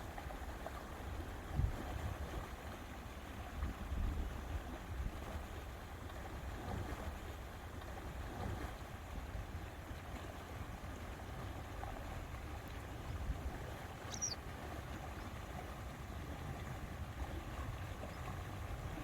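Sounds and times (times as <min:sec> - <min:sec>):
lake water lapping: 0:00.0 - 0:19.0.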